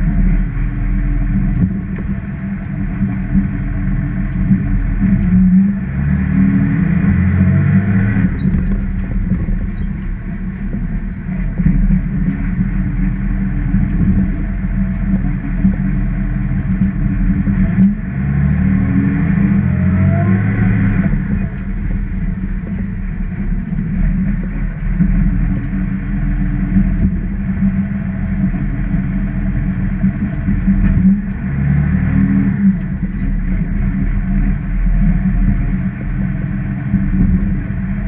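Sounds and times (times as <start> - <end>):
bus engine droning: 0.0 - 38.0
road noise: 0.0 - 38.0.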